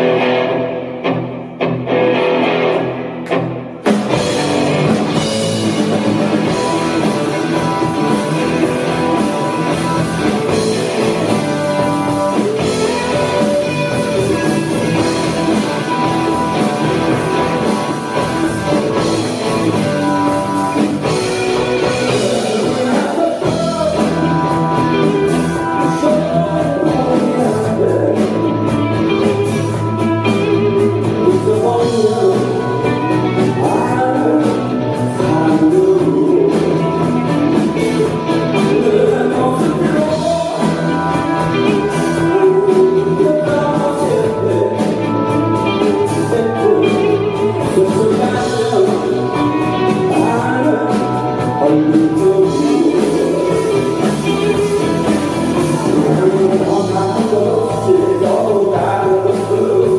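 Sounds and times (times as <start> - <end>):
live rock band playing: 0.0 - 59.9
person singing: 4.1 - 59.9.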